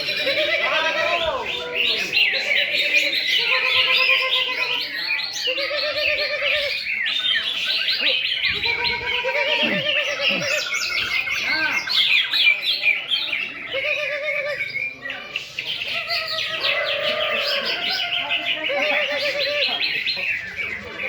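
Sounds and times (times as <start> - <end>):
birds warbling and trilling: 0.0 - 21.0.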